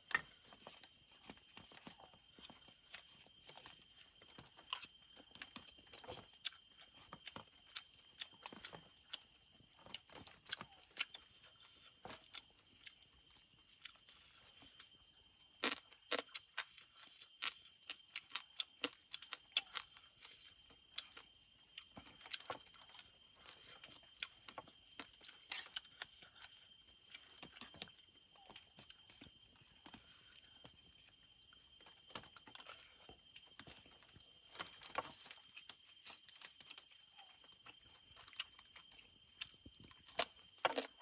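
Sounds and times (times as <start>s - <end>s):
chewing: 0.0s - 41.0s
night insects droning: 0.0s - 41.0s.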